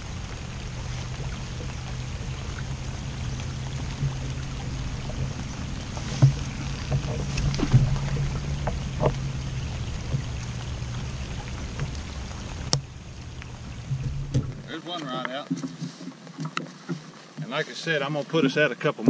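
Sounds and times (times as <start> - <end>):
boat motor hum: 0.0 - 17.7.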